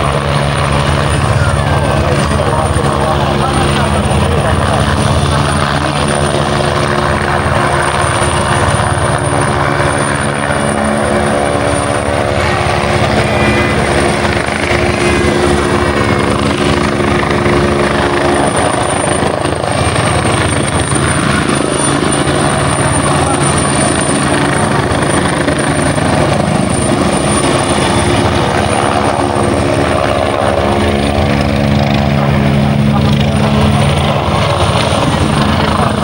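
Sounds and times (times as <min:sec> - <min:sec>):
helicopter hovering: 0:00.0 - 0:36.0.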